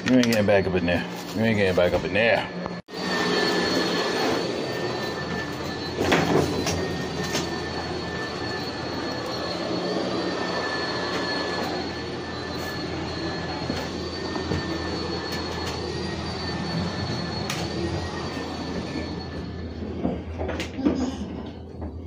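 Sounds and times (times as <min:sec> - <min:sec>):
high whine: 0:00.0 - 0:21.8
elevator rushing hum: 0:02.4 - 0:20.6.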